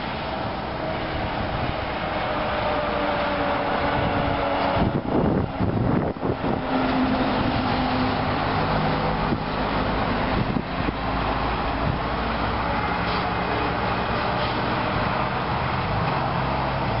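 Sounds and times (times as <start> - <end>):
air buffeting microphone: 0.0 - 17.0
truck passing at highway speed: 0.0 - 17.0.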